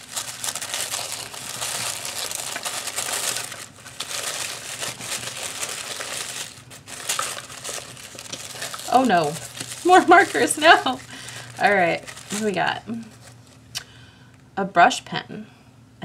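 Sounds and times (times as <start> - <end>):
tissue paper crinkling: 0.0 - 13.6.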